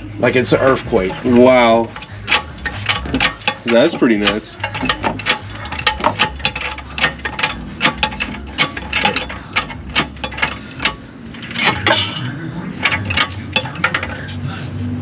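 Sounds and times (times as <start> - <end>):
low steady hum: 0.0 - 15.0
metallic clicks and knocks of tools: 1.1 - 14.2.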